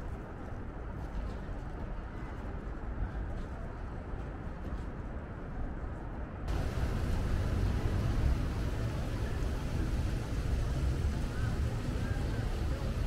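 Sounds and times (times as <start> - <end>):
city background noise: 0.0 - 13.0
low rumble of engines: 0.0 - 13.0.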